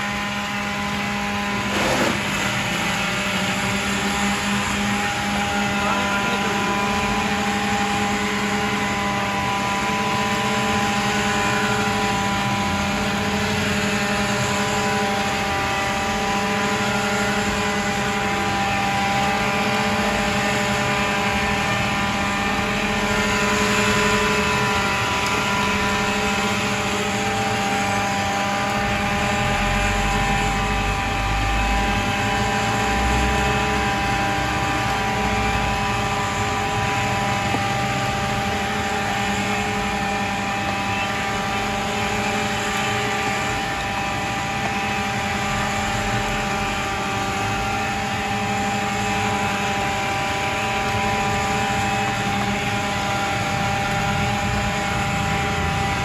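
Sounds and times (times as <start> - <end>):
motor drone: 0.0 - 56.0.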